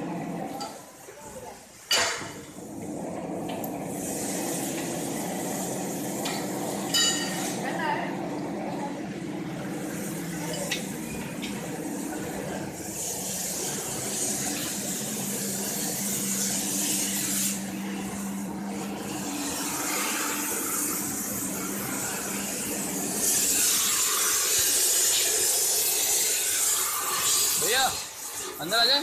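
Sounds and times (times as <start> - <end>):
cutting torch hissing: 2.0 - 29.0.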